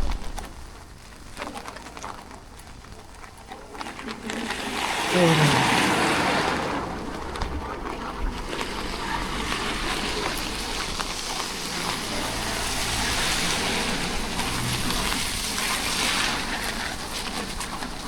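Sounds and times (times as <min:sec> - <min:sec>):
rain on wet road: 0:00.0 - 0:18.0.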